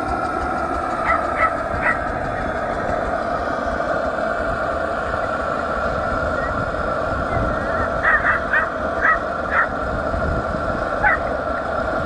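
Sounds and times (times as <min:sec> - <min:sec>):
steady machinery noise: 0:00.0 - 0:12.0.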